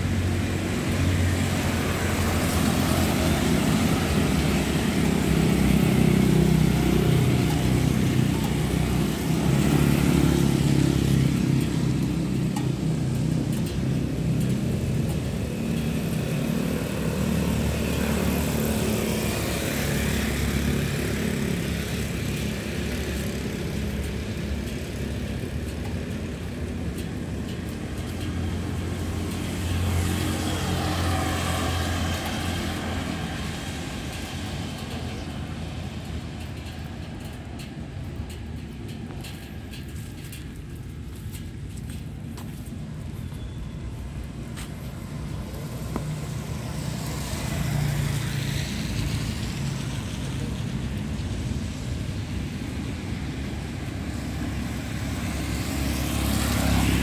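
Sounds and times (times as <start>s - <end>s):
motorbikes riding past: 0.0s - 40.7s, 41.3s - 57.0s
road traffic on wet street: 0.0s - 57.0s.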